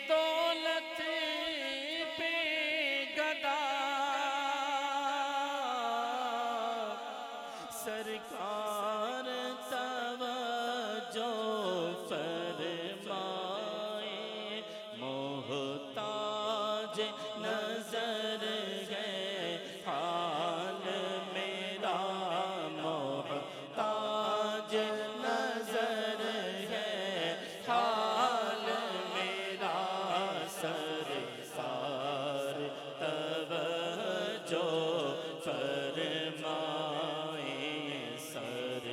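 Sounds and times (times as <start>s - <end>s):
man singing devotional hymn: 0.0s - 38.9s.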